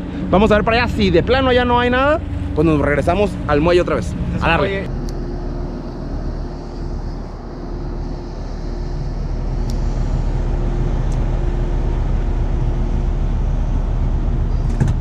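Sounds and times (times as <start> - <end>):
faint steady hum: 0.0 - 15.0
low motor rumble: 0.0 - 15.0.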